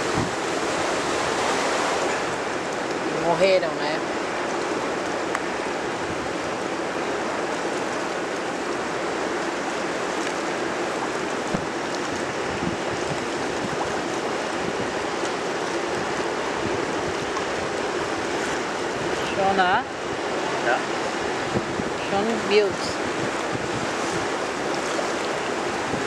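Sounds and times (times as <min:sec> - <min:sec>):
river water rushing: 0:00.0 - 0:26.0
wind: 0:00.0 - 0:26.0.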